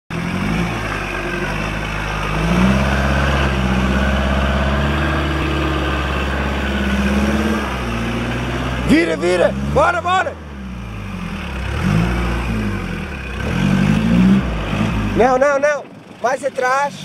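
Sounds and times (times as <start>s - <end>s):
diesel engine working under load: 0.1s - 17.0s.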